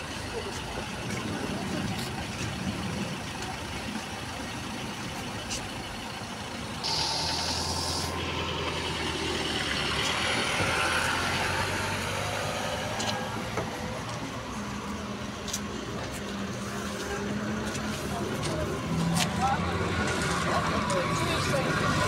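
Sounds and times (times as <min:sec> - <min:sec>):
diesel engines idling: 0:00.0 - 0:22.0
trolleybus electric drive whine: 0:00.0 - 0:22.0.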